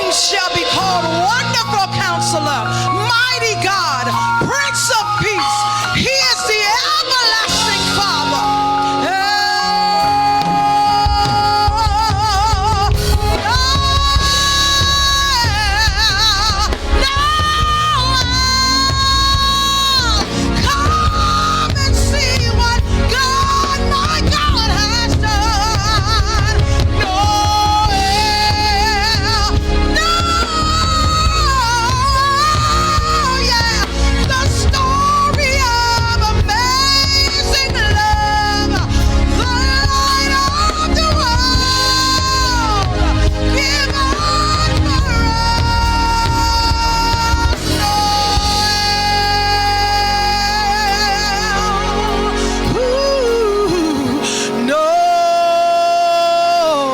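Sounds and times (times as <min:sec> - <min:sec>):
live band accompaniment: 0:00.0 - 0:56.9
woman singing with vibrato: 0:00.0 - 0:56.9
bass and drums: 0:07.4 - 0:54.3.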